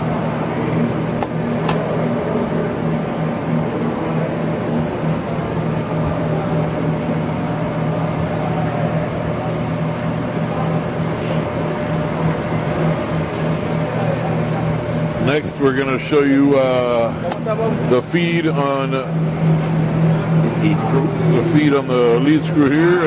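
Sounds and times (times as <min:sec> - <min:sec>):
lathe motor humming: 0:00.0 - 0:23.0.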